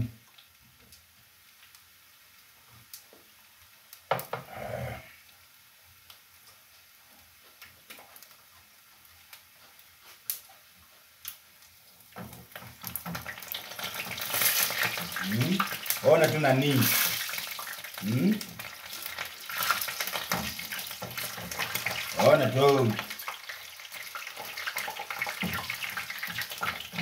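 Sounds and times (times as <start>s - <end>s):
meat sizzling in frying pan: 0.0s - 27.0s.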